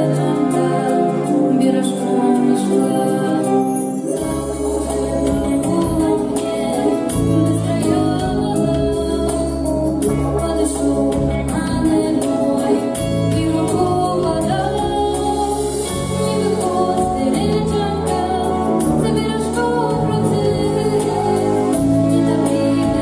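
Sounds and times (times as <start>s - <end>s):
instrumental accompaniment with beat: 0.0s - 23.0s
woman singing: 0.0s - 23.0s.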